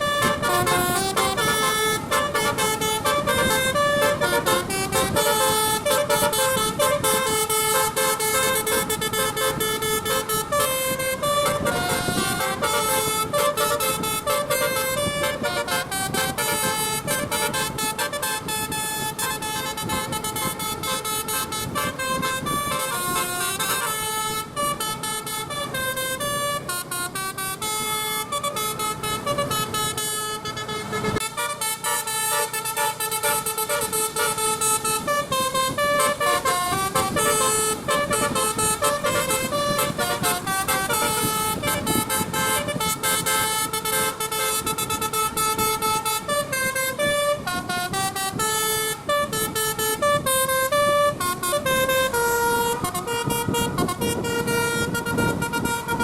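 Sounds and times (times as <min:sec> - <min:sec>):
bus melodic horn playing a tune: 0:00.0 - 0:56.0.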